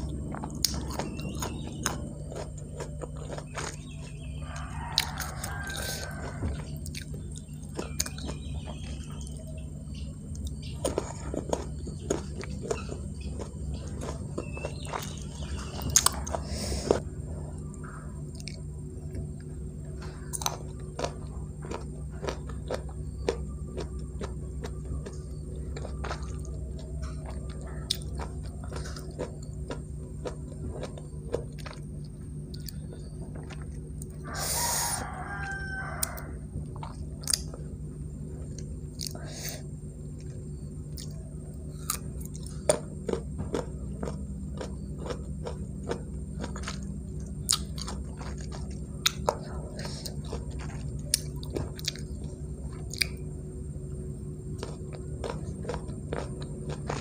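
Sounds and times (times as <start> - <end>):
crisp crunching while chewing: 0.0 - 57.0.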